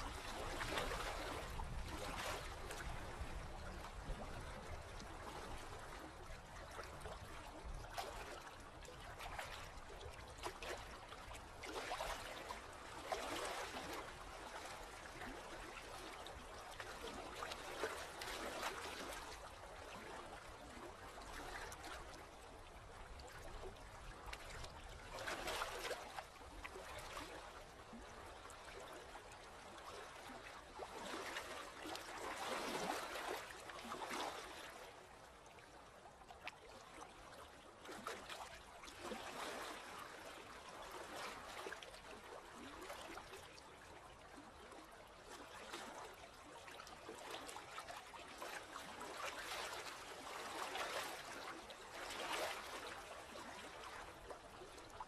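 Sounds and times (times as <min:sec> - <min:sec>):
sea water lapping: 0:00.0 - 0:55.0.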